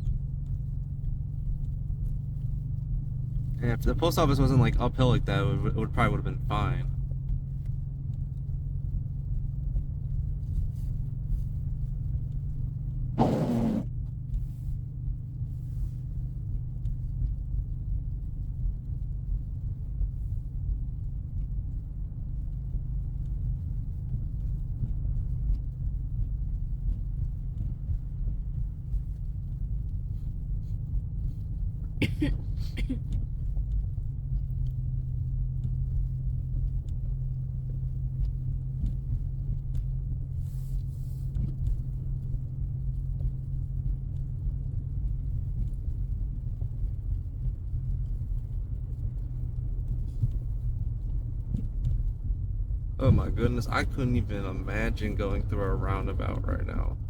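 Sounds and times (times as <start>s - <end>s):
in-cabin car engine drone: 0.0s - 57.0s.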